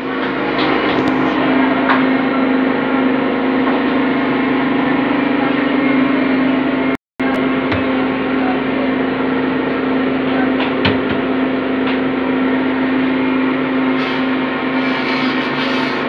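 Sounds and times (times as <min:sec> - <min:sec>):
loud droning hum: 0:00.0 - 0:16.0.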